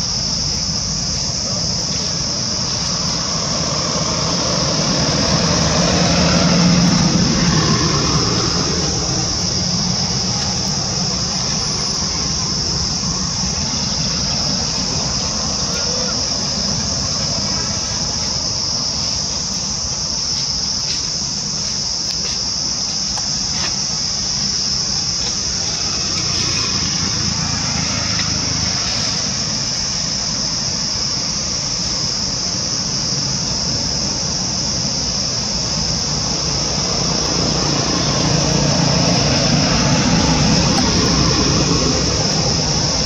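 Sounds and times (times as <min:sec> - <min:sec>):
insects droning: 0:00.0 - 0:43.0.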